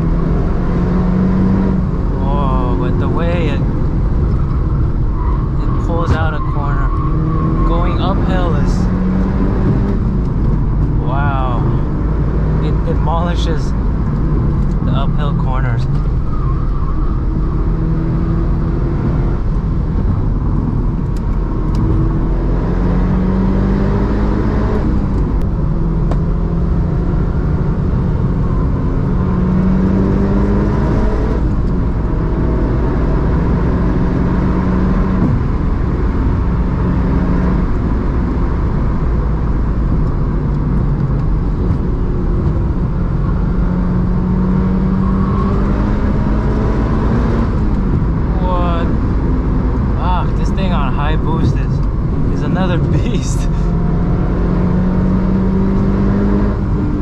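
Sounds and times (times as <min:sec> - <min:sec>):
car engine revving through shifts: 0:00.0 - 0:57.0
road rumble: 0:00.0 - 0:57.0.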